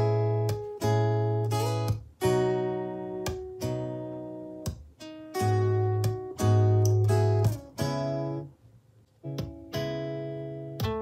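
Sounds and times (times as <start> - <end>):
strummed acoustic guitar chords: 0.0 - 8.5, 9.2 - 11.0.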